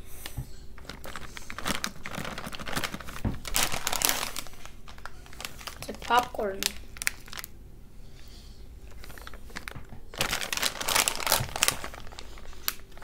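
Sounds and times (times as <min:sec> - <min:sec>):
plastic snack bag crinkling: 0:00.7 - 0:07.6, 0:08.8 - 0:13.0.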